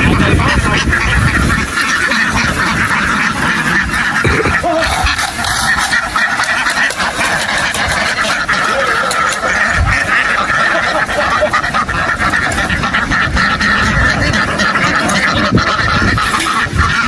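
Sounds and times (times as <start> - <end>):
flock of ducks quacking: 0.0 - 17.0.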